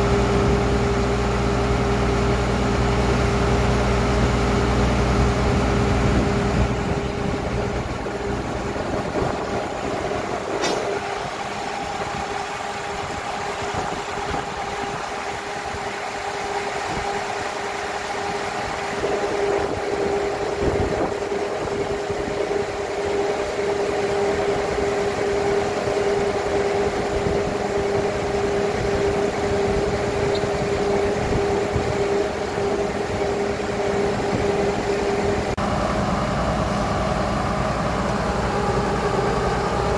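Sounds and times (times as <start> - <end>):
constant machine whine: 0.0 - 39.9
drilling rig engine and hydraulics: 0.0 - 39.9.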